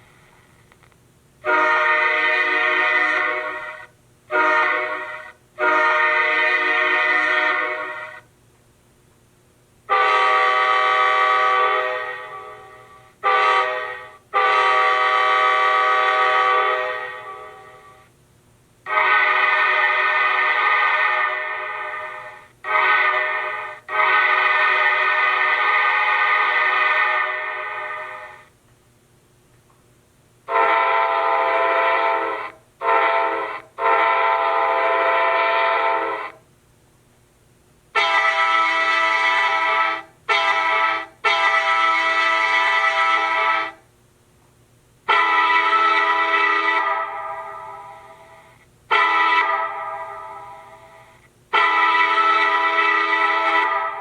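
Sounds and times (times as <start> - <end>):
locomotive air horn through speaker: 1.4 - 8.2, 9.9 - 18.1, 18.8 - 28.4, 30.5 - 36.4, 37.9 - 43.8, 45.0 - 54.0.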